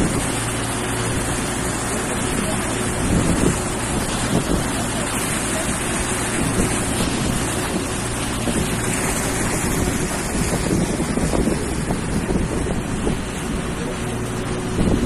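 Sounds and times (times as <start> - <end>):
motorboat engine humming: 0.0 - 15.0
water rushing: 0.0 - 15.0
wind buffeting microphone: 0.0 - 15.0.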